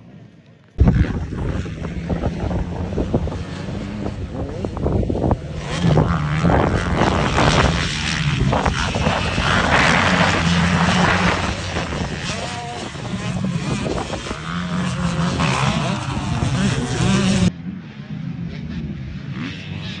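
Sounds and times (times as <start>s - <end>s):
motorcycle engines revving: 0.8s - 20.0s.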